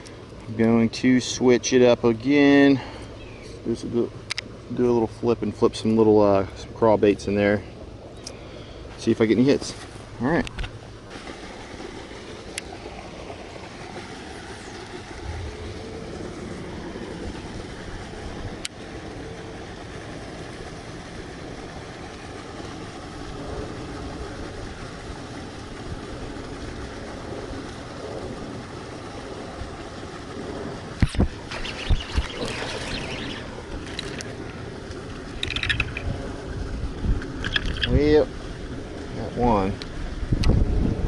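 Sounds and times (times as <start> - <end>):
low rumbling background noise: 0.0 - 41.0.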